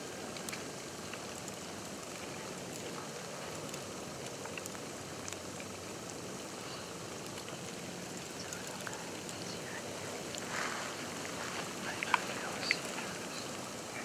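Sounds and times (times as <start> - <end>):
hiss of falling snow: 0.0 - 14.0
snowflakes ticking: 0.0 - 14.0.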